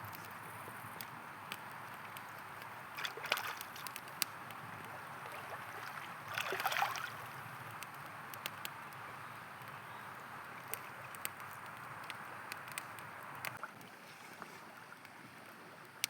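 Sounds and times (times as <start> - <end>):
campfire popping and crackling: 0.0 - 14.0, 14.8 - 16.0.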